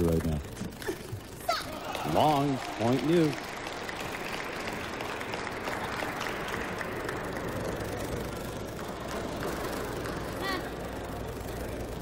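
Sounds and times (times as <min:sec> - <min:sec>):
spectators applauding: 0:01.6 - 0:12.0.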